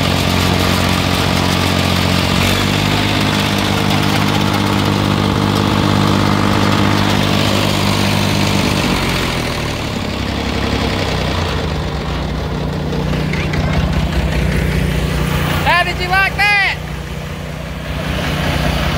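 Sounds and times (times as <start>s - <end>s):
riding lawn mower engine: 0.0s - 18.9s.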